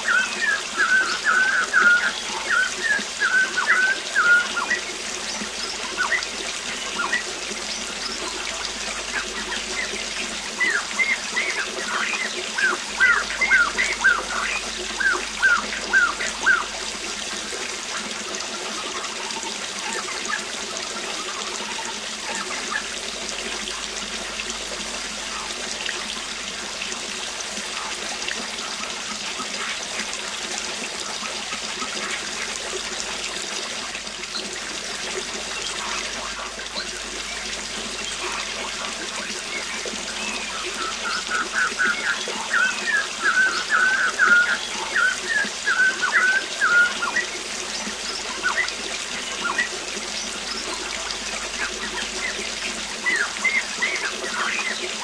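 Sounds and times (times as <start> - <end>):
waterfall: 0.0 - 55.0.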